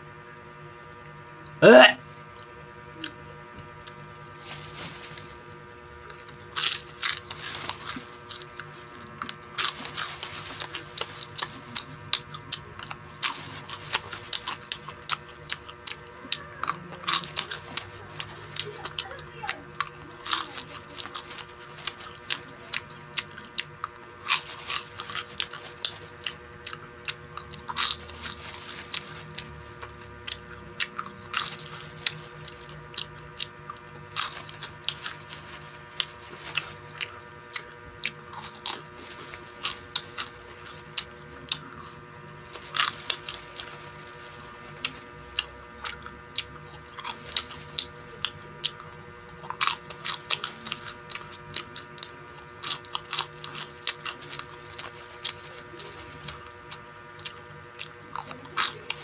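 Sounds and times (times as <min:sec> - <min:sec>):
steady hum: 0:00.0 - 0:59.0
crunchy chewing: 0:00.7 - 0:59.0.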